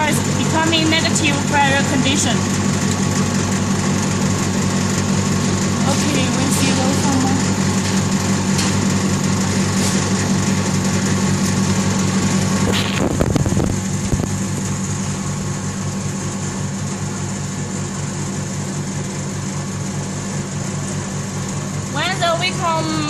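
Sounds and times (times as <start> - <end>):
vacuum pump humming: 0.0 - 23.0.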